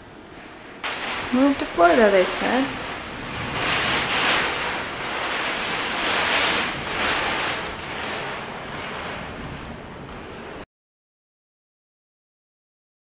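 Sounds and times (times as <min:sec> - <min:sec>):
gusting wind: 0:00.0 - 0:10.6
heavy rain pouring: 0:00.0 - 0:10.7.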